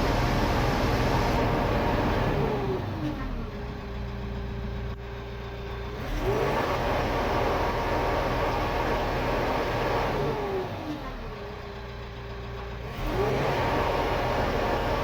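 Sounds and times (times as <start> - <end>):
tractor engine revving and idling: 0.0 - 15.0.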